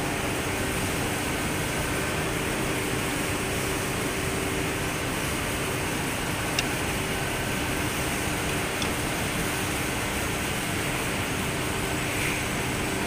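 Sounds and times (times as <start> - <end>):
machinery and ventilation hum: 0.0 - 13.0.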